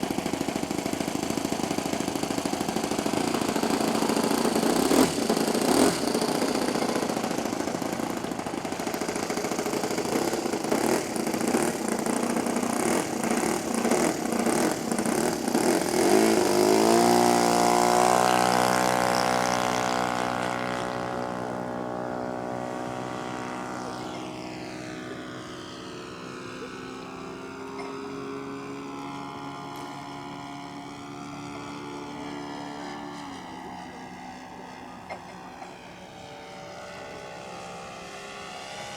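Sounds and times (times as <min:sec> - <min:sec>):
model aircraft engine droning: 0:00.0 - 0:38.9.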